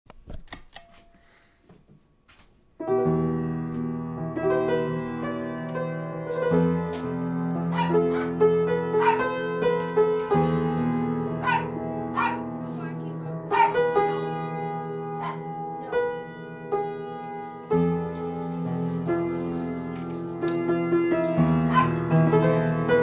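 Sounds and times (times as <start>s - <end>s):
solo piano chords: 2.8s - 23.0s.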